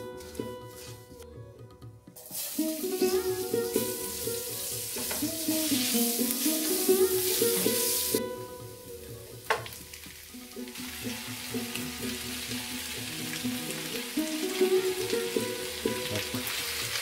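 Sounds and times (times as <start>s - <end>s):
food sizzling in frying pan: 2.2s - 17.0s.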